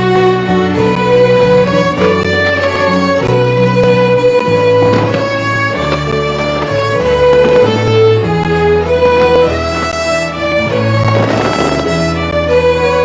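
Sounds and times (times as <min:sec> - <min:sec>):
bass notes and chords: 0:00.0 - 0:13.0
fiddle playing a folk tune: 0:00.0 - 0:13.0.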